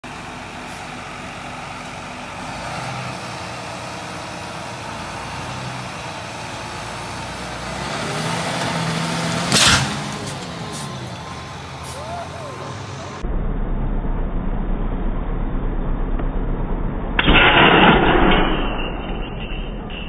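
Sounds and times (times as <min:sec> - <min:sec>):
tractor diesel engine running: 0:00.0 - 0:17.2.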